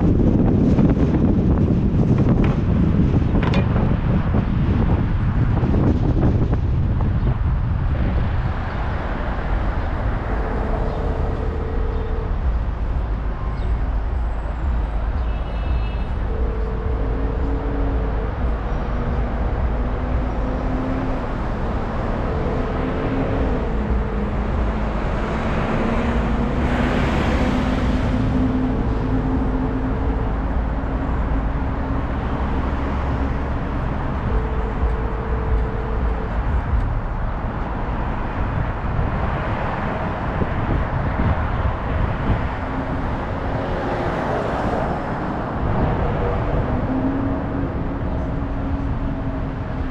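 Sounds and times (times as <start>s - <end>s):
road traffic rumble: 0.0s - 49.9s
steady mid-pitched tone: 9.9s - 49.9s.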